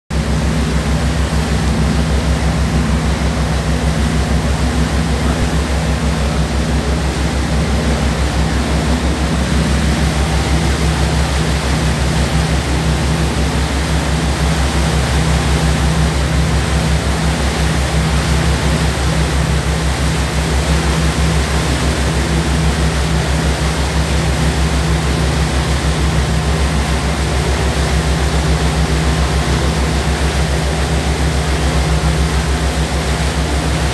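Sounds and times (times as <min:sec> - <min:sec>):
boat engine droning: 0:00.1 - 0:33.9
water rushing: 0:00.1 - 0:33.9.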